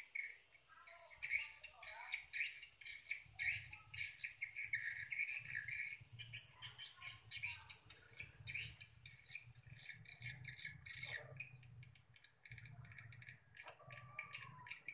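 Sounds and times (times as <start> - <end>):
sharp high bird calls: 0.0 - 14.9
swiftlets twittering: 0.0 - 14.9.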